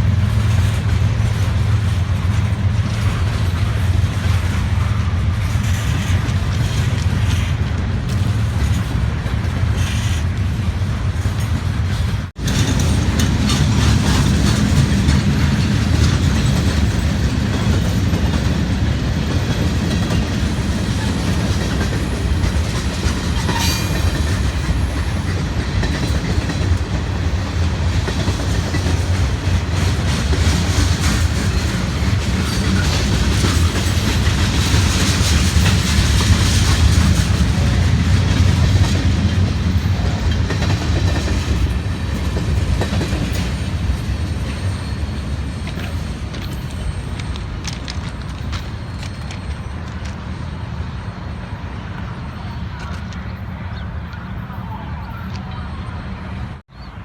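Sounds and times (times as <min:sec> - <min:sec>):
clickety-clack over rail joints: 0:00.0 - 0:56.1
freight train wheels rumbling: 0:00.0 - 0:57.0.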